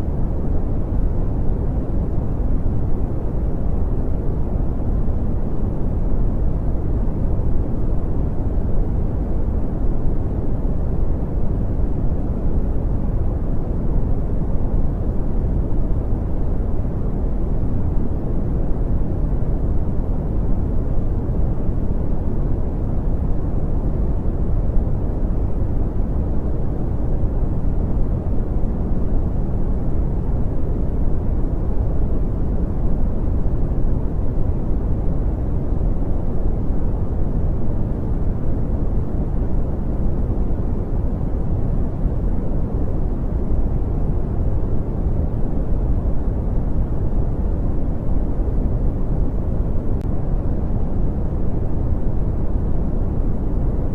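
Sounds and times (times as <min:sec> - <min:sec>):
brown noise rumbling hiss: 0:00.0 - 0:53.9.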